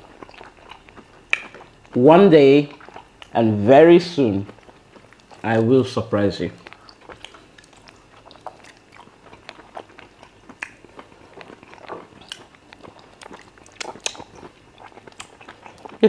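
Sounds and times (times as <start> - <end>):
chewing and wet mouth sounds: 0.0 - 3.4, 4.0 - 16.0.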